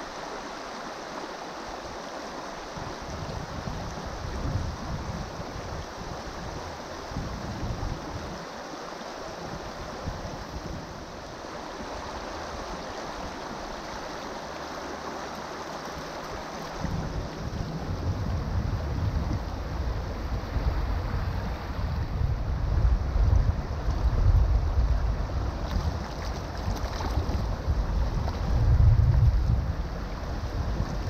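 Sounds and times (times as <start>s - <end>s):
river rushing over gravel: 0.0s - 31.0s
wind gusts on microphone: 2.7s - 8.6s, 9.3s - 14.6s, 15.9s - 31.0s.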